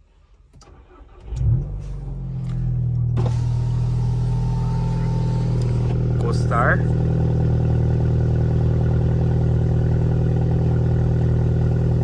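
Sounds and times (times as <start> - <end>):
car engine starting and idling: 0.2 - 12.0.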